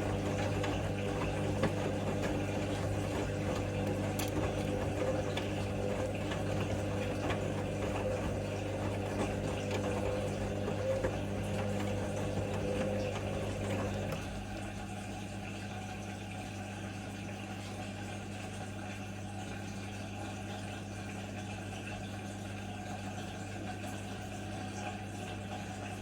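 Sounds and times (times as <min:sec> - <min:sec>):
washing machine spinning hum: 0:00.0 - 0:26.0.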